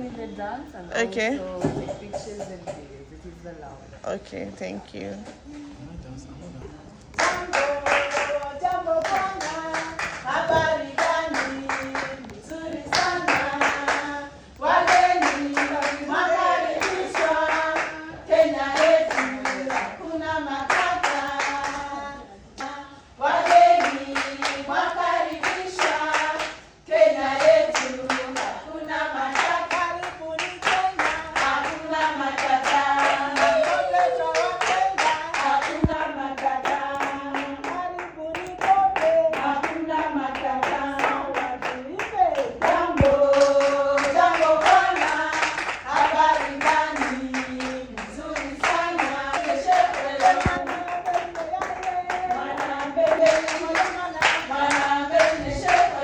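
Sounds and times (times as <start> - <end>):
group of voices singing: 7.0 - 56.0
rhythmic hand clapping: 7.0 - 56.0.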